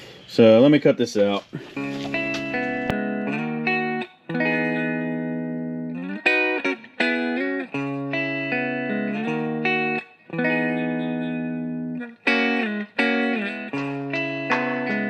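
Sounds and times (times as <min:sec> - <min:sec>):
guitar playing held chords: 0:01.6 - 0:15.0.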